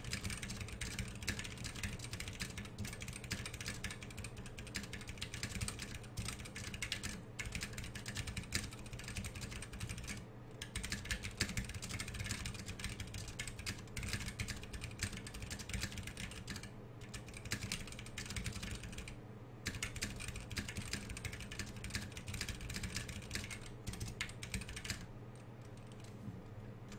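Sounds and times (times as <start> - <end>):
mechanical keyboard typing: 0.0 - 26.1.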